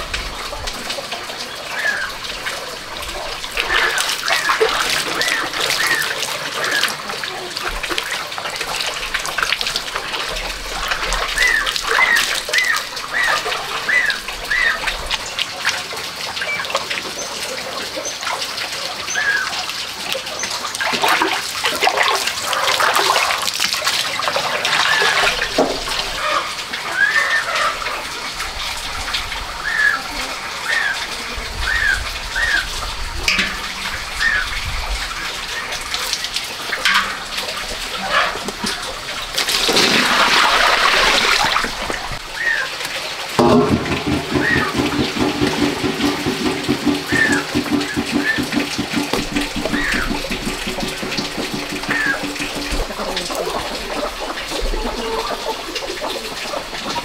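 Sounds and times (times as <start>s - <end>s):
water splashing in metal basin: 0.0s - 57.0s.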